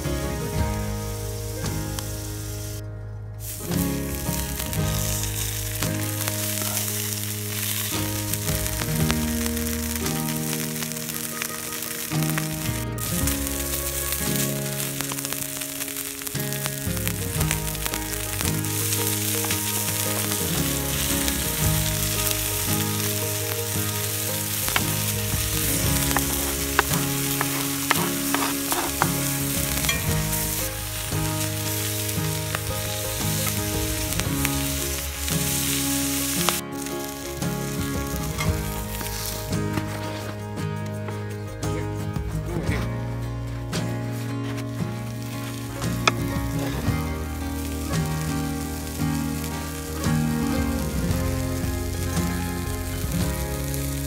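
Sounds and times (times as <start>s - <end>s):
food sizzling in hot oil: 0.0s - 2.8s, 3.4s - 40.8s, 44.2s - 54.0s
background music with bass line: 0.0s - 54.0s.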